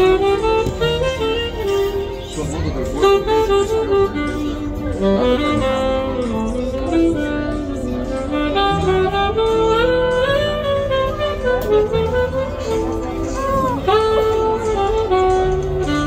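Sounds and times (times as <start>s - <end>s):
saxophone melody: 0.0s - 16.0s.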